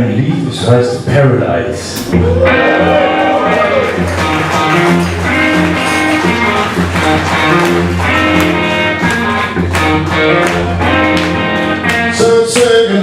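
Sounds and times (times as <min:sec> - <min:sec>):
blues band playing live: 0:01.8 - 0:13.0
electric guitar: 0:01.8 - 0:13.0.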